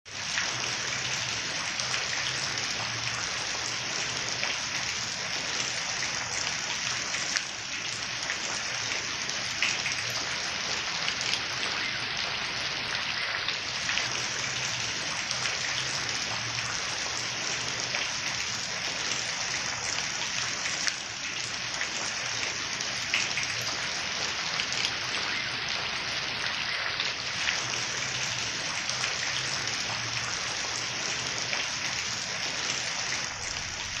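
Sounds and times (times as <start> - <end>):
rain pattering on leaves: 0.1 - 34.0.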